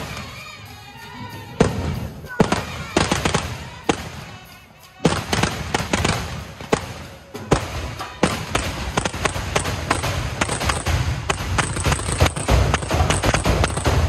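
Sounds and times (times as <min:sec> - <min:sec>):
fireworks banging: 0:01.5 - 0:14.0.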